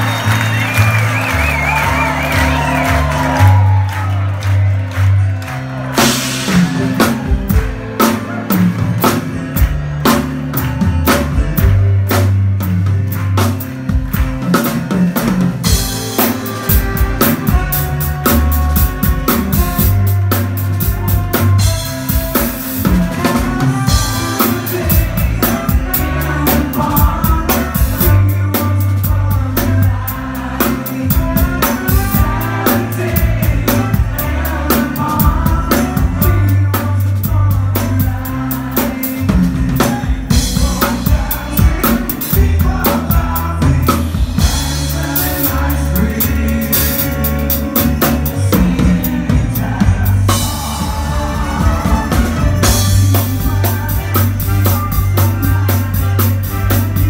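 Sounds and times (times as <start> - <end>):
rock band with horns: 0.0 - 57.0.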